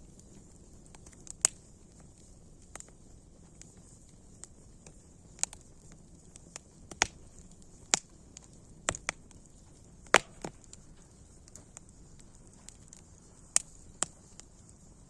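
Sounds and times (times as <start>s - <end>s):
faint steady hiss: 0.0s - 15.0s
wood fire crackling: 0.0s - 15.0s.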